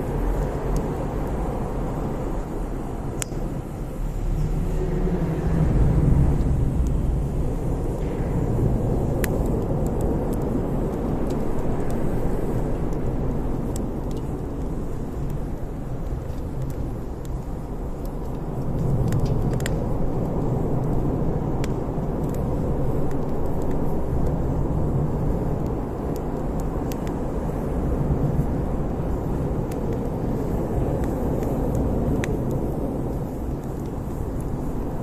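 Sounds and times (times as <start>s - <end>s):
campfire burning: 0.0s - 35.0s
fire crackles and pops: 0.0s - 35.0s.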